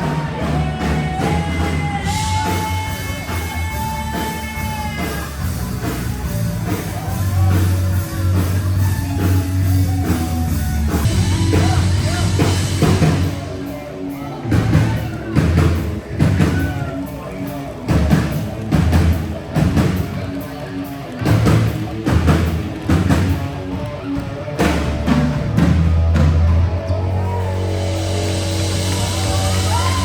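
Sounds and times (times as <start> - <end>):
rock music with singing: 0.0 - 30.0.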